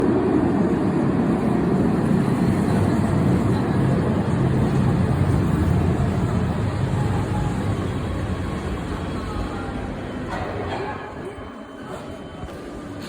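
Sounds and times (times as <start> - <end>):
tram running rumble: 0.0 - 13.0.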